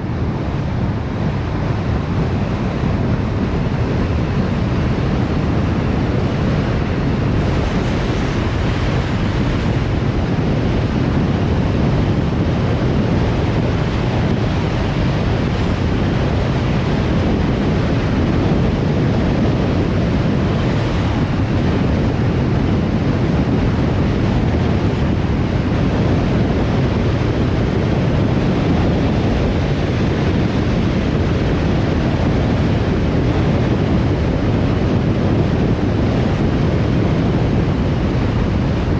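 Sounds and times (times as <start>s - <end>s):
air rushing past car: 0.0s - 38.9s.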